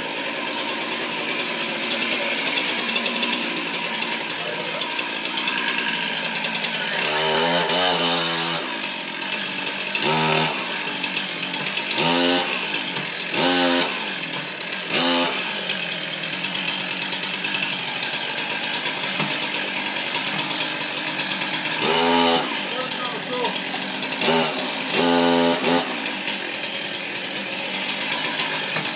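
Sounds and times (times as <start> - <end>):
chainsaw engine revving and idling: 0.0 - 28.9.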